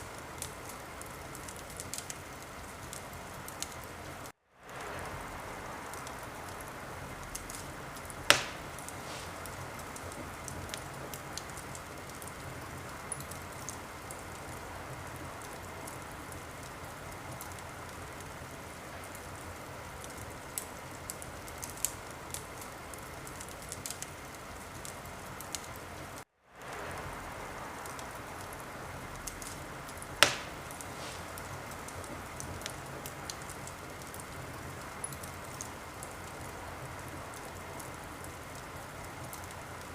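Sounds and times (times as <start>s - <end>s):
wood fire hissing and crackling: 0.0s - 39.9s
sharp pops of fire: 0.1s - 18.4s, 19.0s - 25.7s, 26.6s - 39.9s.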